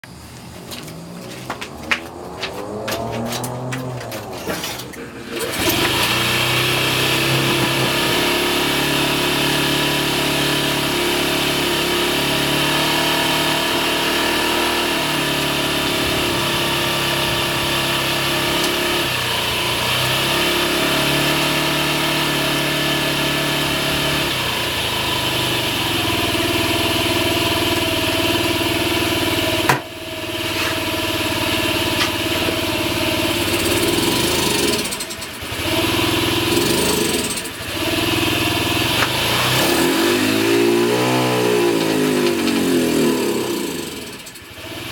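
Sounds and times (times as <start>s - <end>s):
scooter engine idling unevenly: 0.0s - 12.7s, 13.3s - 44.9s.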